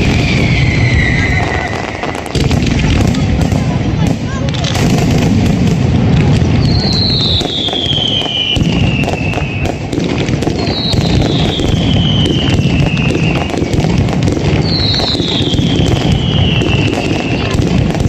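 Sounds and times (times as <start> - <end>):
falling whistle of fireworks: 0.0 - 18.0
firecrackers crackling and banging: 0.0 - 18.0.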